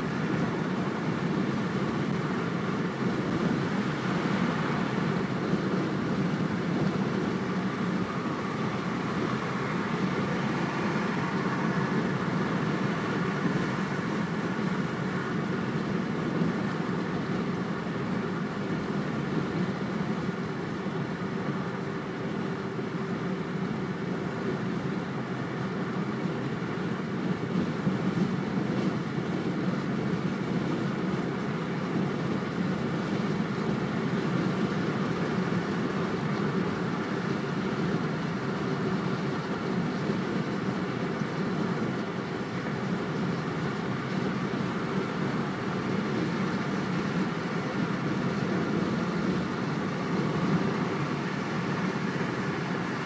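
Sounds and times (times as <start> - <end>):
car cabin road and engine noise: 0.0 - 53.0.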